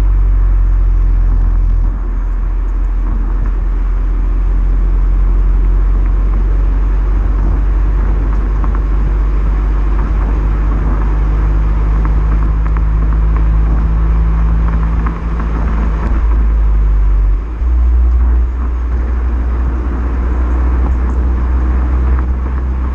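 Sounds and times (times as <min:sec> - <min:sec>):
car engine droning: 0:00.0 - 0:22.9.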